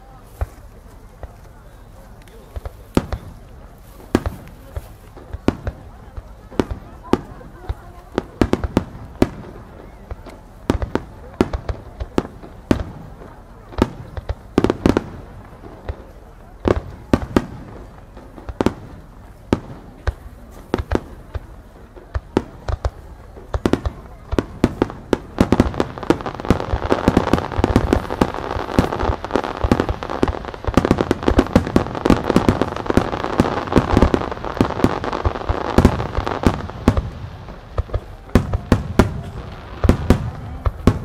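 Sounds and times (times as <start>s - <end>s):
firework crackle: 0.0s - 41.0s
firework shells booming: 2.4s - 41.0s.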